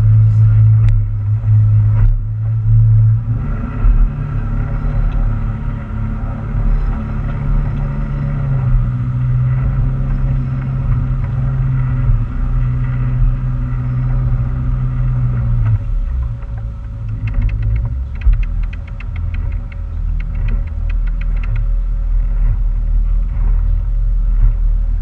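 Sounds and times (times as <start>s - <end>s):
motorboat engine droning: 0.0s - 25.0s.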